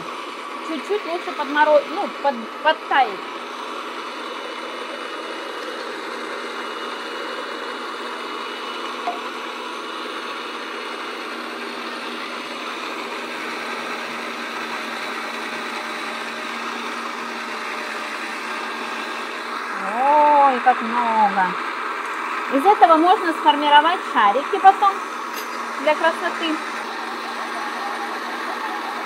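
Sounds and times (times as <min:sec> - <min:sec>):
blade shredding frozen berries: 0:00.0 - 0:29.0
electric motor running: 0:00.0 - 0:29.0.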